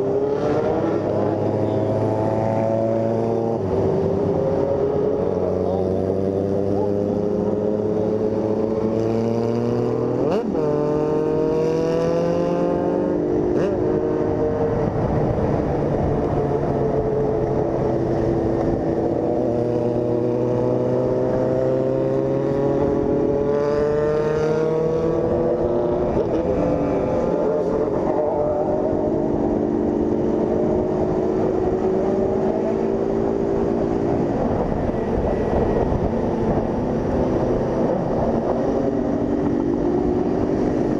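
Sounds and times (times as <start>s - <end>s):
motorcycle engine through gears: 0.0s - 40.9s.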